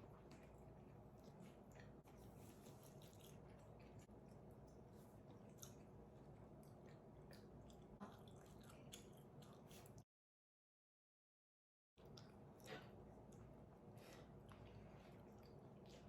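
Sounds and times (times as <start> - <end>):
faint chewing of food: 0.0 - 10.1, 12.0 - 16.0.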